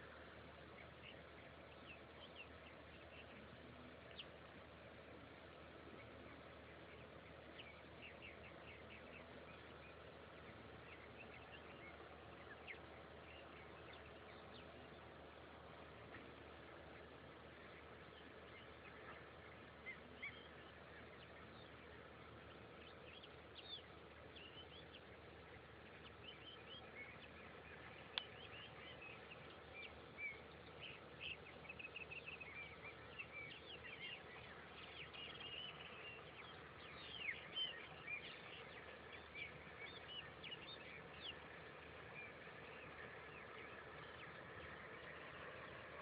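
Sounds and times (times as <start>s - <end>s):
birds chirping: 0.0s - 46.0s
faint hiss: 0.0s - 46.0s.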